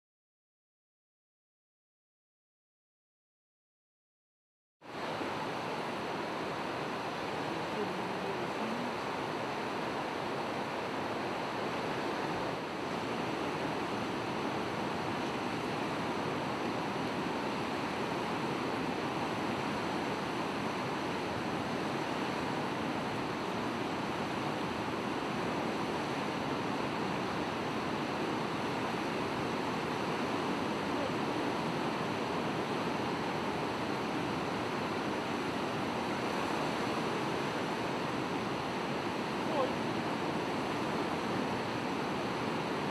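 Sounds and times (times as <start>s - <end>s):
rushing river water and surf: 4.8s - 42.9s.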